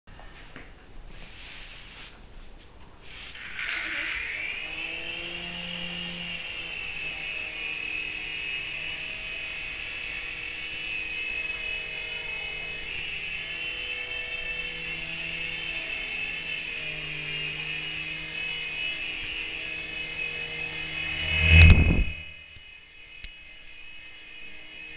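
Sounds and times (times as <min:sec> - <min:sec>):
rc helicopter rotor whine: 0:03.1 - 0:24.9.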